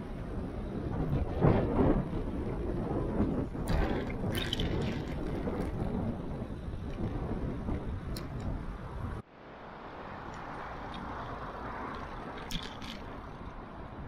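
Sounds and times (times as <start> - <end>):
wind buffeting microphone: 0.0 - 9.2, 10.0 - 14.0
city traffic noise: 0.0 - 14.0.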